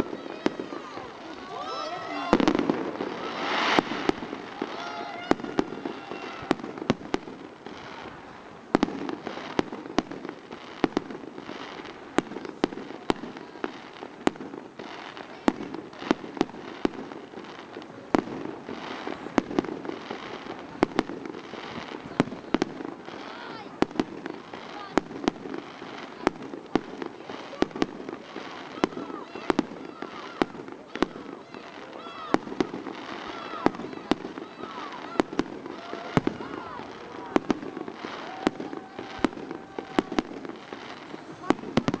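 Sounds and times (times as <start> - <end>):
background noise: 0.0 - 42.0
fireworks bursting: 0.0 - 42.0.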